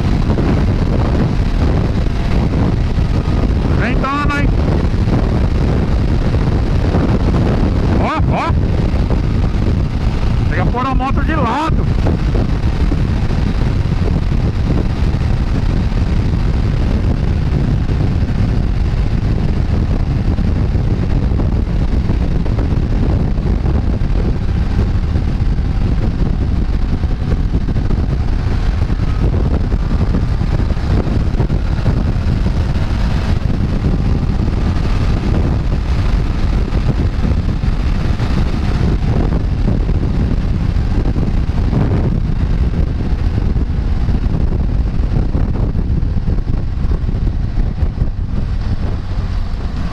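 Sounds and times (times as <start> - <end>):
motorcycle engine: 0.0 - 49.9
road noise: 0.0 - 49.9
wind rushing on microphone: 0.0 - 49.9.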